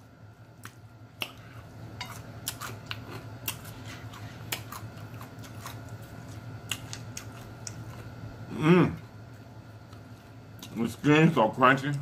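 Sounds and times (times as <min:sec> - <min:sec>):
low steady hum: 0:00.0 - 0:12.0
chewing crunchy fried chicken: 0:00.4 - 0:11.0.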